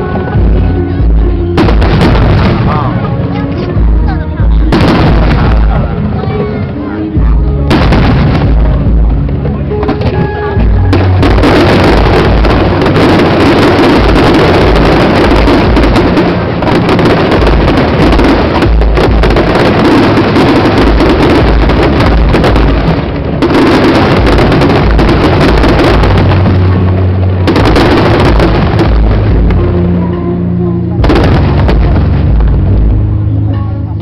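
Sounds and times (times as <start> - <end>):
fireworks bursts and deep booms: 0.0 - 33.5.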